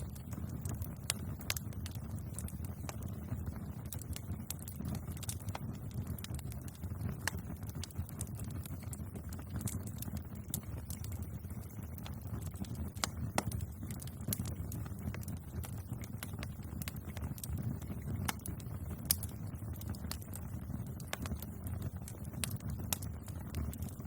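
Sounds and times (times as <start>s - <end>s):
burning wood popping: 0.0s - 24.0s
low rumble of flames: 0.0s - 24.0s.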